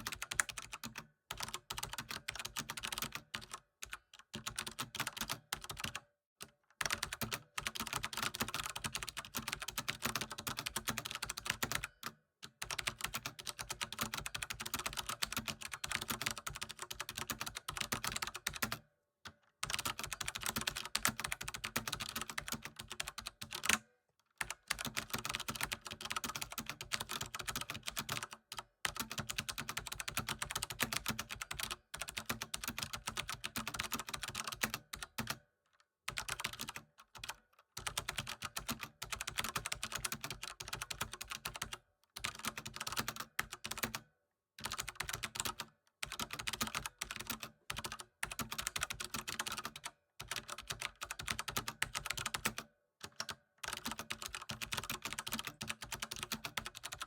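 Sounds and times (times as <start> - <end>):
typing on keyboard: 0.0 - 35.5, 36.1 - 57.0.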